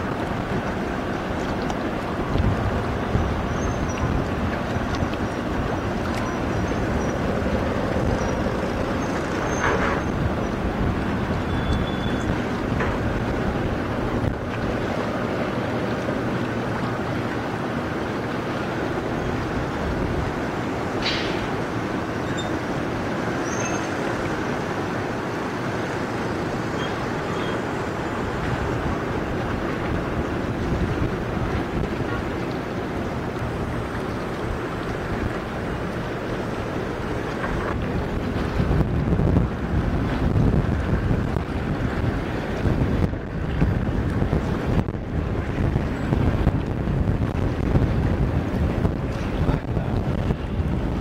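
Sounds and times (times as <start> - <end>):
rushing bow wave water: 0.0 - 51.0
ship engine low rumble: 0.0 - 51.0.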